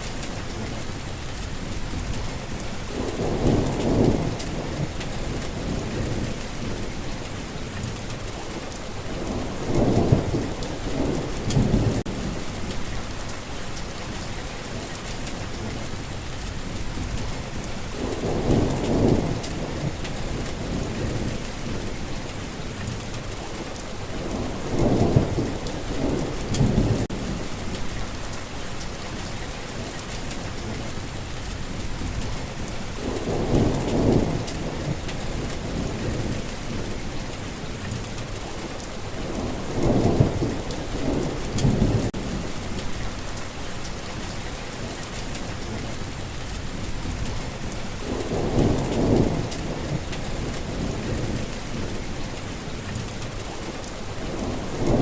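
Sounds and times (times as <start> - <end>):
steady rain: 0.0 - 55.0
low rolls of thunder: 1.4 - 55.0.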